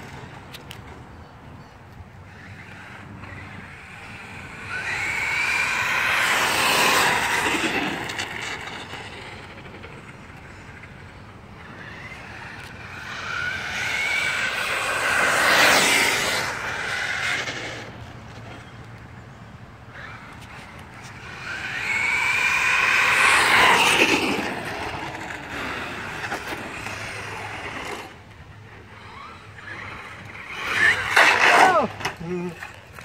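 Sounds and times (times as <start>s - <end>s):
tyre noise on asphalt: 0.0s - 33.0s.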